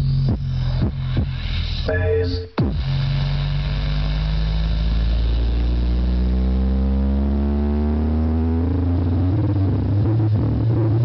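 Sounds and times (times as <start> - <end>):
bass-heavy electronic music: 0.0 - 11.0.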